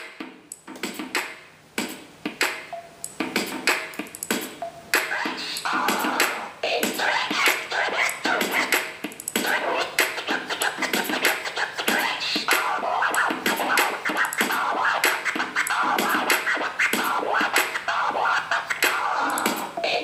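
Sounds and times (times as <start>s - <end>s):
backing beat: 0.0s - 20.0s
record scratching: 3.2s - 20.0s.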